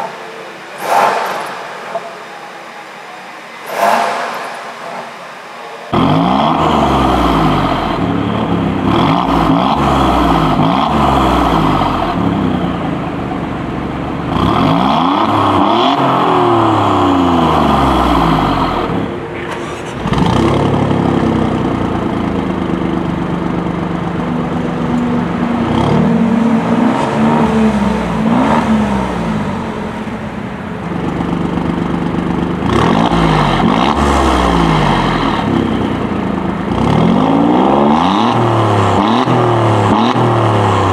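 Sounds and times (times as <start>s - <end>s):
car engine revving and idling: 5.9s - 40.9s.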